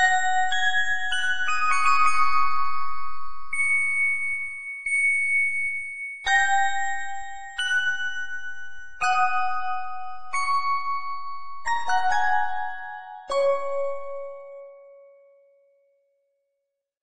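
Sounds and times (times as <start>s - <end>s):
slow bell-like instrumental music: 0.0s - 16.1s.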